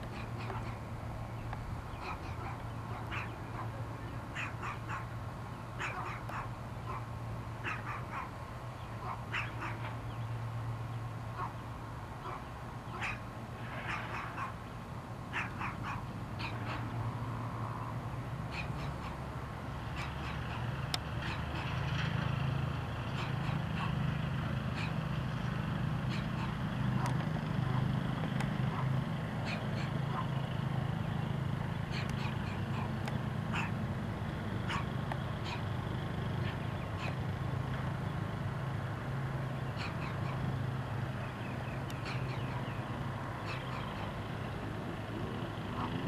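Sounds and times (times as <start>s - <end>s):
light plane engine drone: 0.0s - 46.0s.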